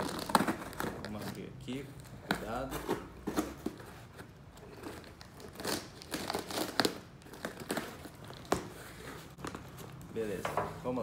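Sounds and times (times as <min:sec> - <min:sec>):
plastic wrapping crinkling: 0:00.0 - 0:03.8, 0:04.5 - 0:10.3.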